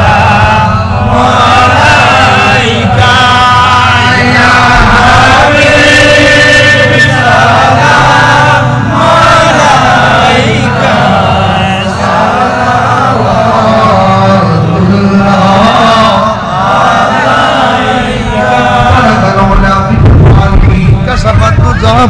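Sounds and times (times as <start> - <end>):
crowd of men chanting: 0.0 - 19.9
man singing through microphone: 0.0 - 22.0.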